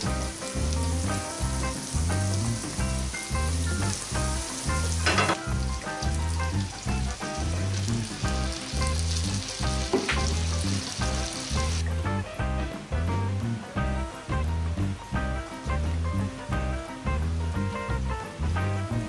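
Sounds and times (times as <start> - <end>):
butter and garlic sizzling in a pan: 0.0 - 19.0.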